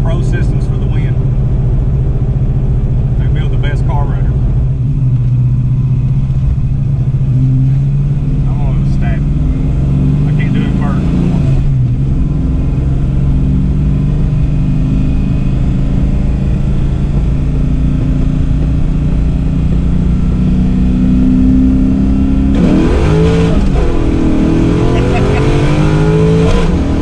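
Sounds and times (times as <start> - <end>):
car engine drone from inside: 0.0 - 27.0.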